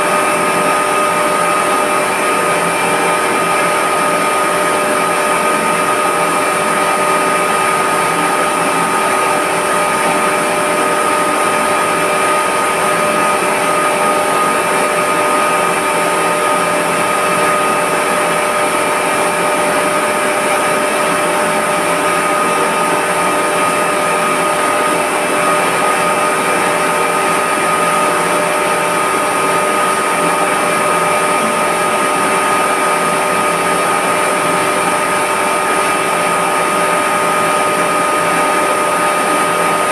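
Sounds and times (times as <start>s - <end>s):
high-pressure pump running: 0.0s - 39.9s
steady machine whine: 0.0s - 39.9s.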